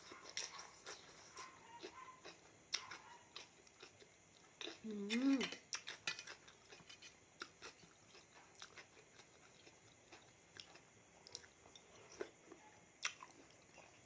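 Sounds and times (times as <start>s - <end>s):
chewing and wet mouth clicks: 0.1s - 12.3s, 13.0s - 14.0s.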